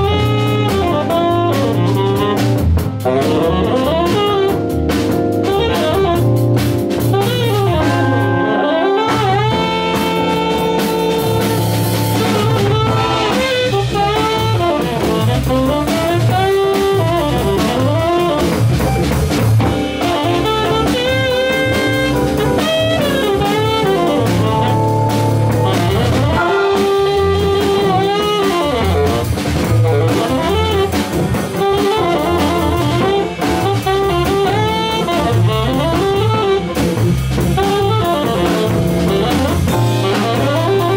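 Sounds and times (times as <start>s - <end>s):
drum kit with cymbals: 0.0s - 40.9s
electric guitar: 0.0s - 40.9s
saxophone melody: 0.0s - 40.9s.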